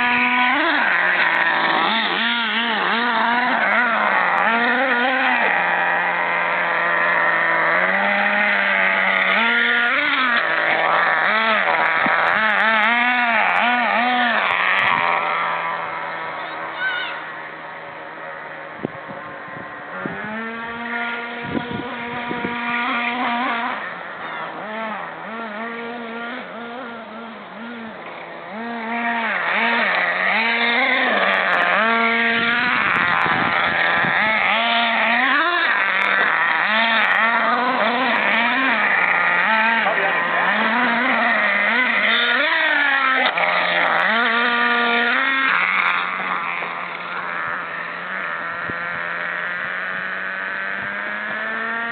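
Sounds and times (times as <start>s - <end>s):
small nitro engine revving: 0.0s - 51.9s.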